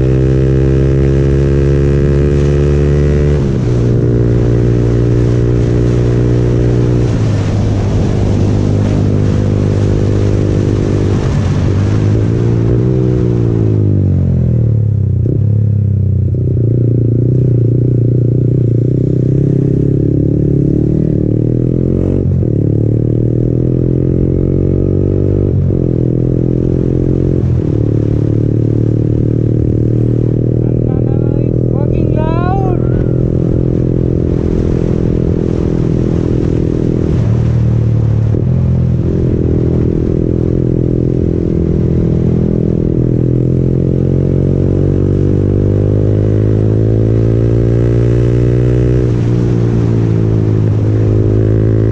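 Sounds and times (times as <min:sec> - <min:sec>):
motorcycle engine: 0:00.0 - 0:51.9
wind rushing on microphone: 0:02.2 - 0:14.4, 0:18.2 - 0:45.3, 0:47.9 - 0:51.9.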